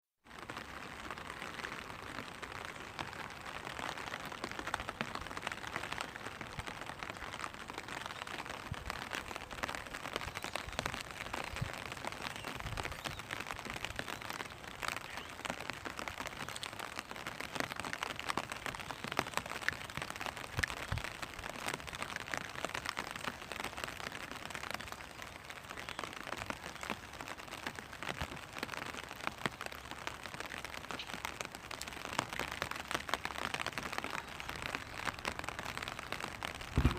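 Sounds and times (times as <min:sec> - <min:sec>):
rain hissing on umbrella: 0:00.3 - 0:36.9.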